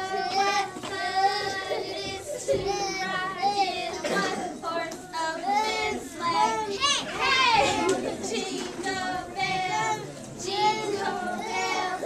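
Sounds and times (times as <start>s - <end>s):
toddlers singing: 0.0s - 12.0s.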